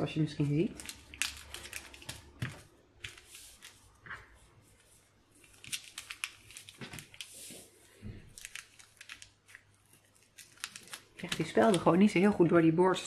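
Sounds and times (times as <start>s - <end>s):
paper rustling and crinkling: 0.4s - 12.2s.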